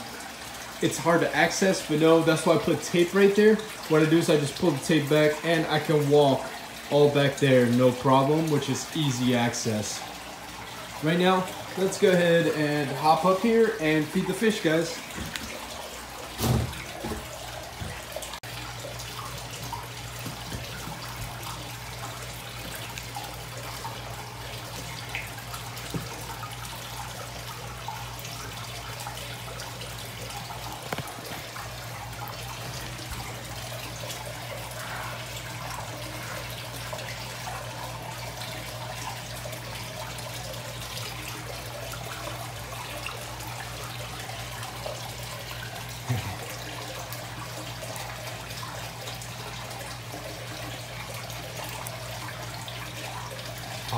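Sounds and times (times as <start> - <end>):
water trickling: 0.0 - 53.9.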